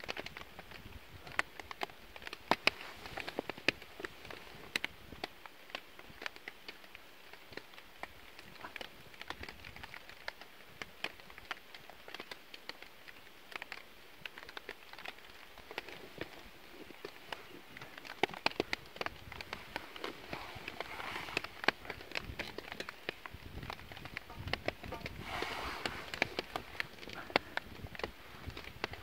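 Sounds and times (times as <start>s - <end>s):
raindrops pattering: 0.0s - 29.0s.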